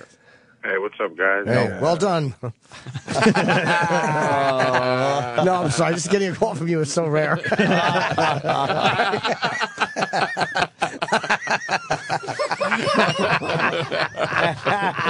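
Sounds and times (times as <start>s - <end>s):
men laughing: 2.7s - 15.0s.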